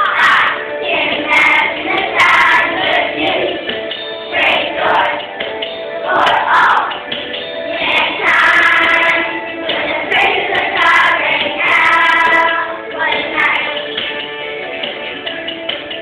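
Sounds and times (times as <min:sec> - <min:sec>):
children's choir singing: 0:00.0 - 0:14.4
musical accompaniment: 0:00.0 - 0:16.0.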